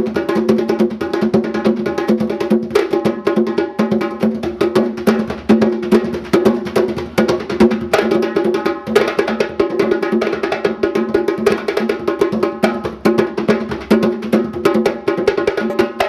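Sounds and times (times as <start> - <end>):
fast percussion music: 0.0 - 16.0.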